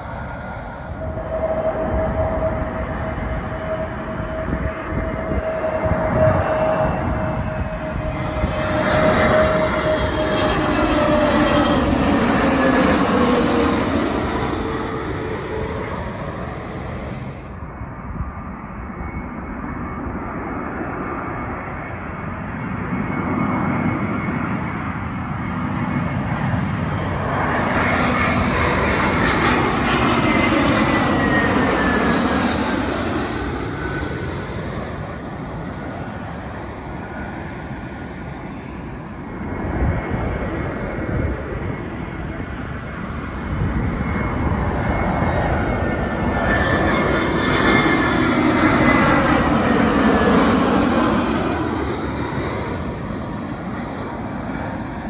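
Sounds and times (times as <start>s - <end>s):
jet airliner passing overhead: 0.0s - 55.0s
jet engine whine dropping in pitch: 0.0s - 55.0s.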